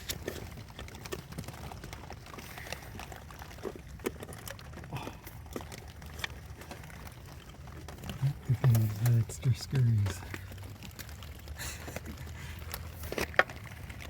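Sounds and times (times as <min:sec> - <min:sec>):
small parts and tools clicking: 0:00.0 - 0:14.0.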